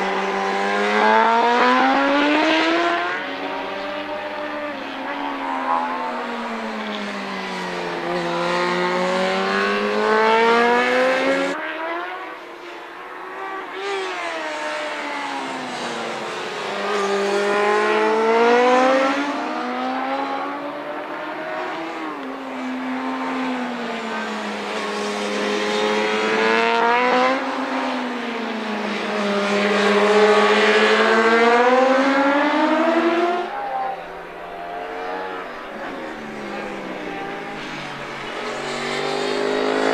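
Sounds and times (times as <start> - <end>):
racing motorcycle engines: 0.0 - 39.9.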